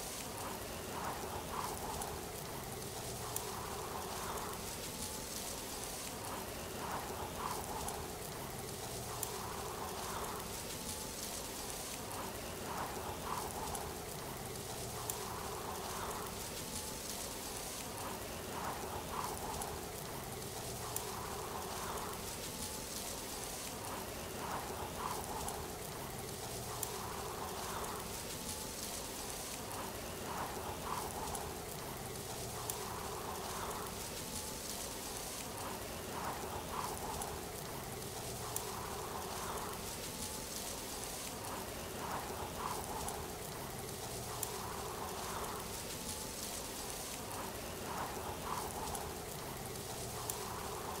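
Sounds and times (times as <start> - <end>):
rushing falling water: 0.0 - 51.0.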